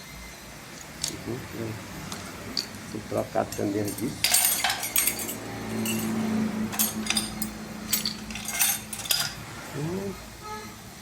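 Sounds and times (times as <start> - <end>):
steady low hum: 0.0 - 11.0
metal tools clinking: 0.7 - 9.8.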